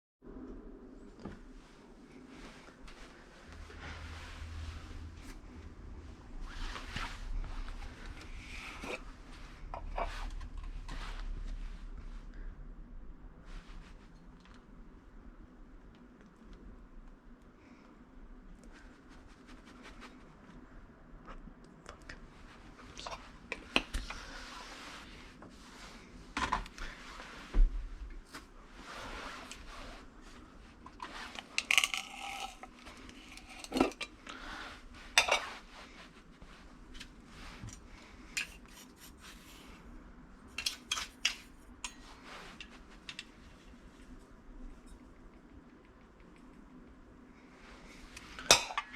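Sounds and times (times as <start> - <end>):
soft rubbing and scraping: 1.0 - 12.4, 13.4 - 15.0, 17.6 - 20.9, 22.2 - 45.4.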